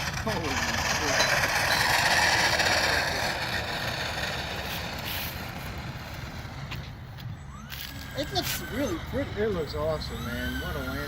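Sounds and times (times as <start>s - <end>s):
model plane electric motors: 0.0s - 11.0s.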